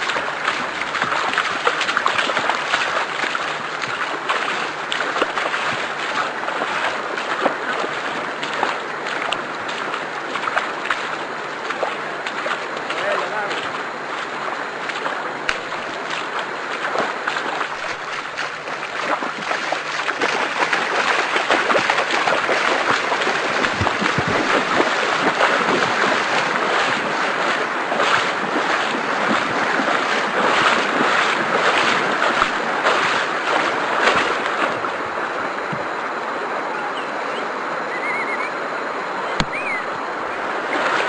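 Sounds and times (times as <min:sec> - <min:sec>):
people wading and splashing: 0:00.0 - 0:41.0
river rushing: 0:00.0 - 0:41.0.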